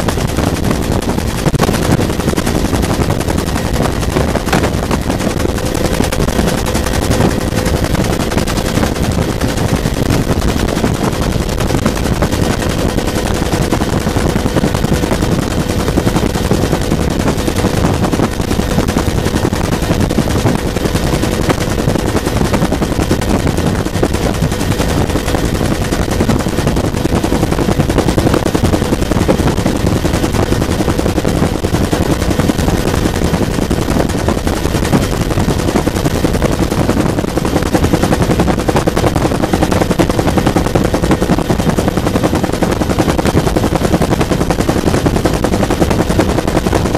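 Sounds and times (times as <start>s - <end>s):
faint steady whine: 0.0s - 46.9s
helicopter rotor beating: 0.0s - 46.9s.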